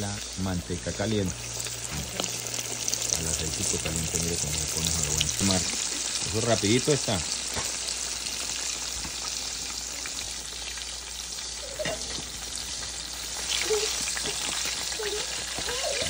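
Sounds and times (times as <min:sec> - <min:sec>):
fish deep-frying in hot oil: 0:00.0 - 0:16.0.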